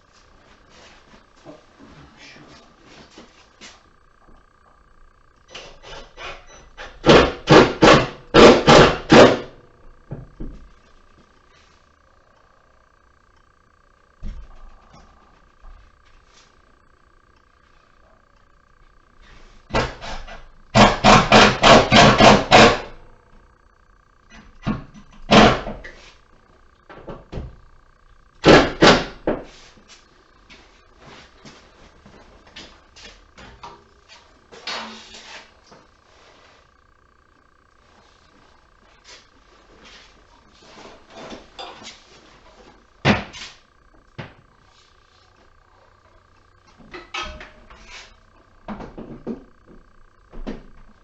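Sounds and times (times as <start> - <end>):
faint high hum: 0.0 - 51.0.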